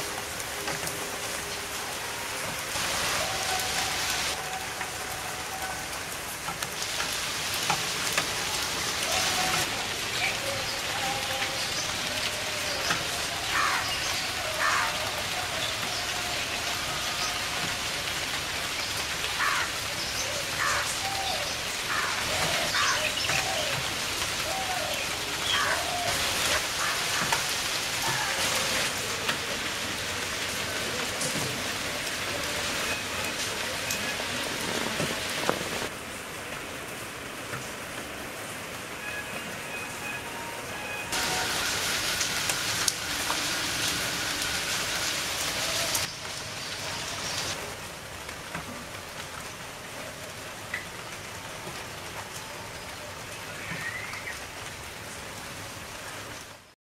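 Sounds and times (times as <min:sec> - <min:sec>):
rain on leaves: 0:00.0 - 0:56.8.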